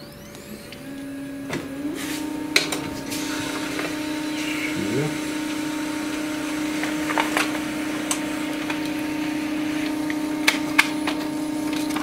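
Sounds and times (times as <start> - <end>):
printer motor hum: 0.0 - 12.0.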